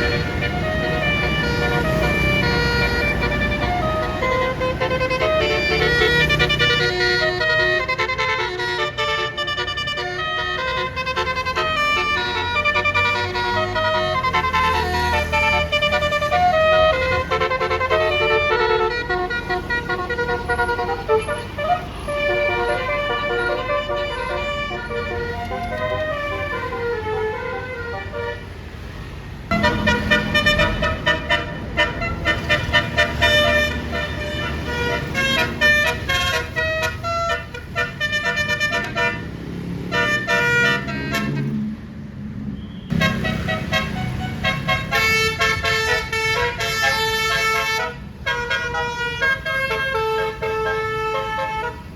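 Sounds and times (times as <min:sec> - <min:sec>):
multi-tone bus air horns playing tunes: 0:00.0 - 0:41.8, 0:42.6 - 0:51.9.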